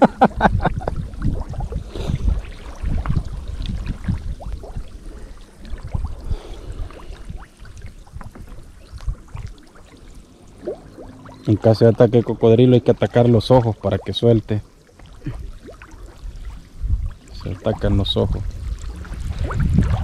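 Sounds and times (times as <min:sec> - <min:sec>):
water sloshing and splashing: 0:00.4 - 0:20.0.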